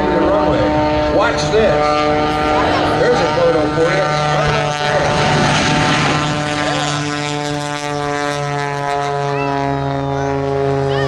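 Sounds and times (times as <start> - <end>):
loud rushing roar: 0.0 - 11.0
propeller engine droning: 0.0 - 11.0.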